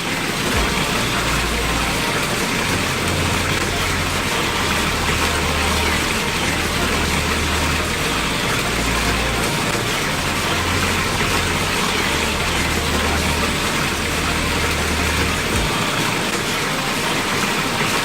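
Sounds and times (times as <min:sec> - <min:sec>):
waterfall splashing into basin: 0:00.0 - 0:18.0.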